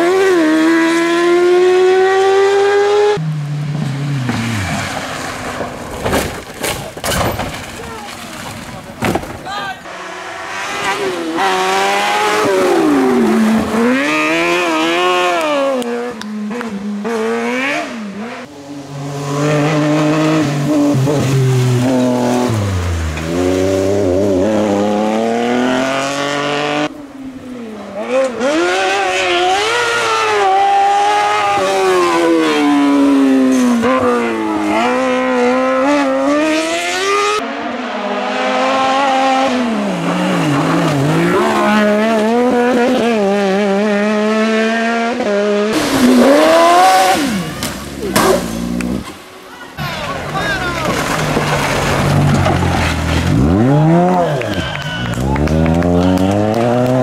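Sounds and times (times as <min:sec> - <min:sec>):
buggy engines revving: 0:00.0 - 0:57.0.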